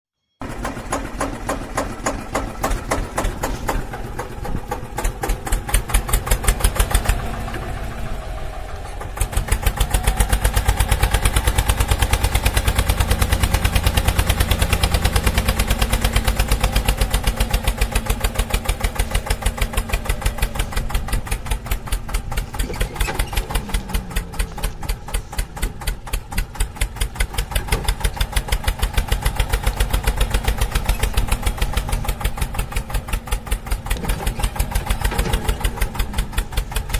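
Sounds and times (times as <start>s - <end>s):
small engine chugging: 0.3s - 36.9s.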